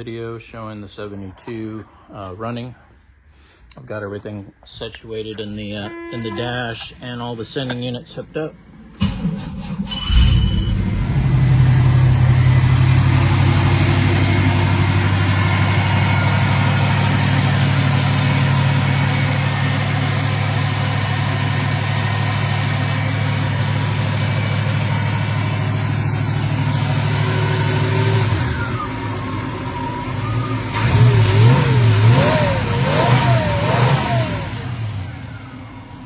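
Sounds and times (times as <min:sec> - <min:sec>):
car engine starting and idling: 0:05.1 - 0:36.0.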